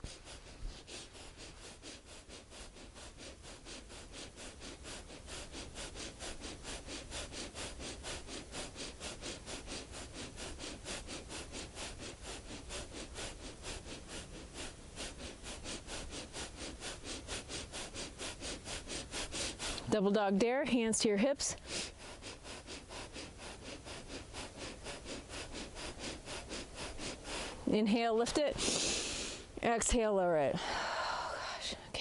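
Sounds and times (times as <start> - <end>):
rapid forceful nose breaths: 0.0 - 32.0.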